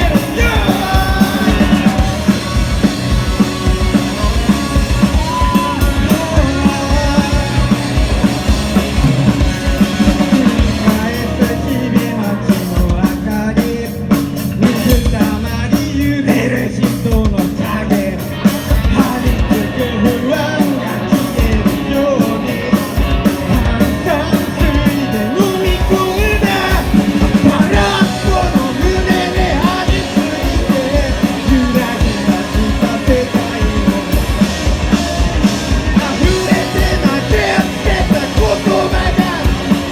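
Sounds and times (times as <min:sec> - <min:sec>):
person singing: 0:00.0 - 0:02.7, 0:03.3 - 0:08.2, 0:10.1 - 0:34.5, 0:35.8 - 0:39.9
punk rock band playing: 0:00.0 - 0:39.9.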